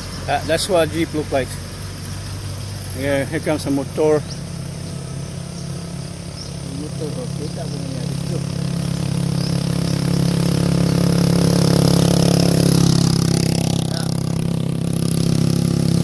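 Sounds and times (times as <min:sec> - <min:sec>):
motorcycle passing by: 0:00.0 - 0:16.0.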